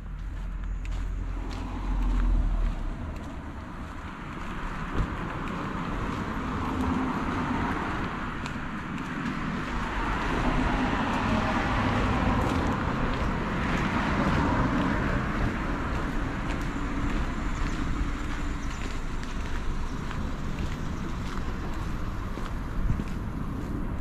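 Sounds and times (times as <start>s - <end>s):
motor vehicle passing: 0.0s - 24.0s.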